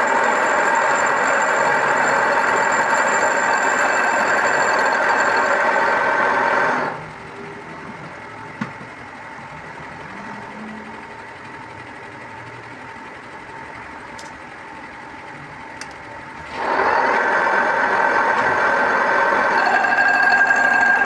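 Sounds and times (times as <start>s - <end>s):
loud machine with whining tones: 0.0s - 21.0s
machine running with faint whine: 0.0s - 21.0s.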